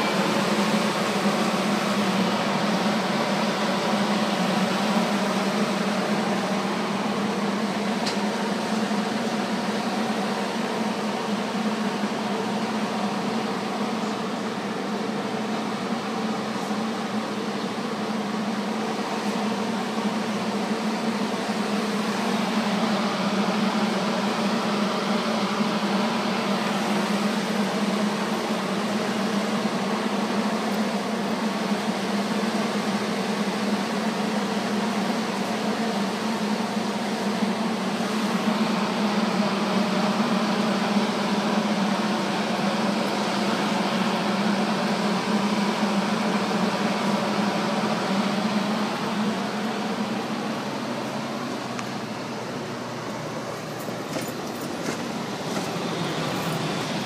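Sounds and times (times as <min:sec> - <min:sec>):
train mechanical hum: 0:00.0 - 0:57.0.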